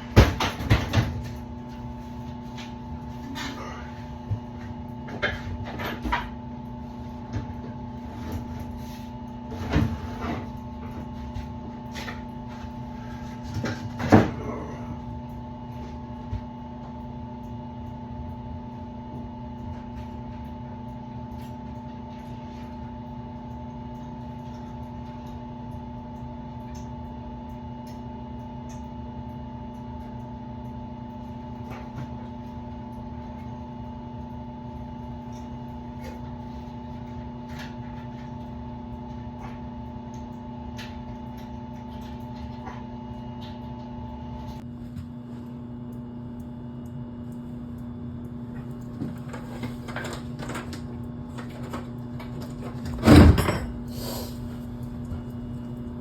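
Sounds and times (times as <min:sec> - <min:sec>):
furnace motor hum: 0:00.0 - 0:56.0.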